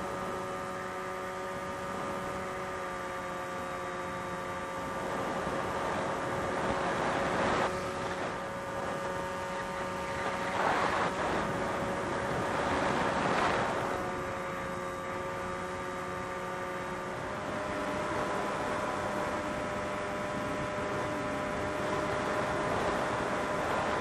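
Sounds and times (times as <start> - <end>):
drone motor whine: 0.0 - 24.0
rushing wind noise: 4.4 - 24.0.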